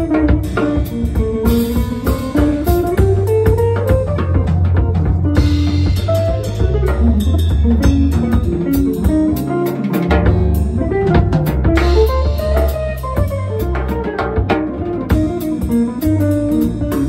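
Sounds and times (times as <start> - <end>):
drum kit with cymbals: 0.0 - 17.0
electric bass: 0.0 - 17.0.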